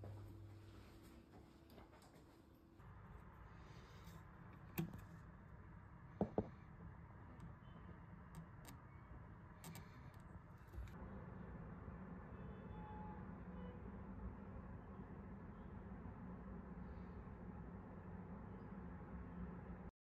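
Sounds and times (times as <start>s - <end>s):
faint low hum: 0.0s - 19.9s.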